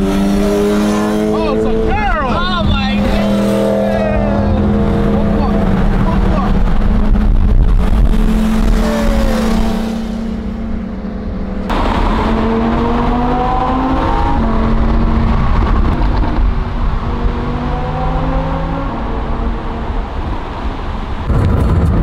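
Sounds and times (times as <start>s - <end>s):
car engine accelerating: 0.0s - 21.6s
road noise: 0.0s - 22.0s.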